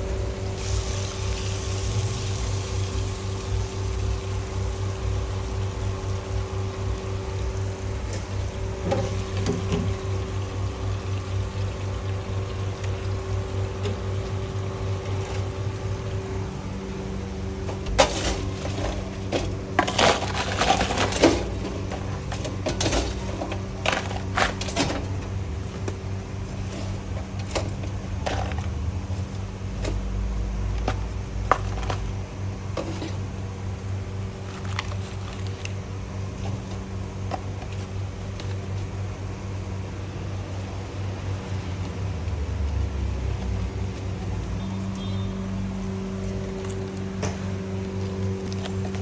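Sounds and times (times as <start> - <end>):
kitchen equipment hum: 0.0 - 49.0.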